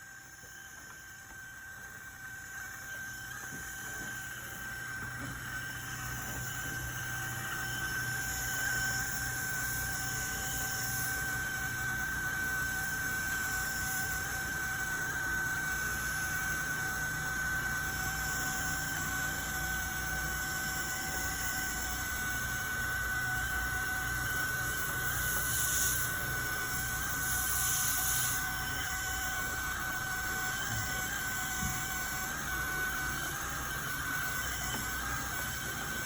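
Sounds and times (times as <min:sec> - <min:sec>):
carpet cleaner motor whine: 0:00.0 - 0:36.0.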